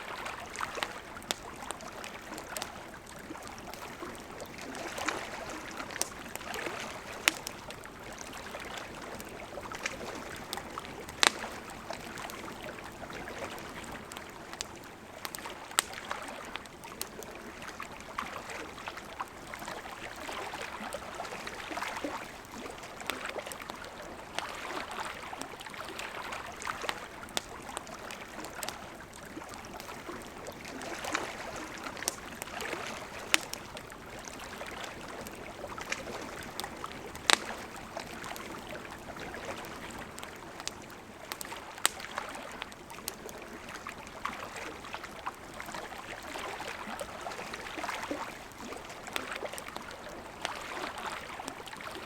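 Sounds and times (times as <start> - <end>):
campfire crackling and popping: 0.0 - 52.0
river water flowing: 0.0 - 52.0.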